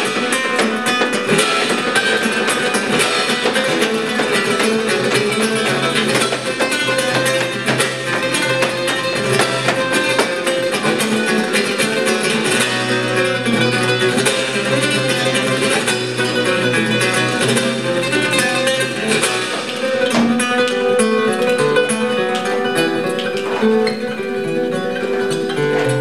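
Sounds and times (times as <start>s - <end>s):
flamenco guitar playing: 0.0s - 26.0s.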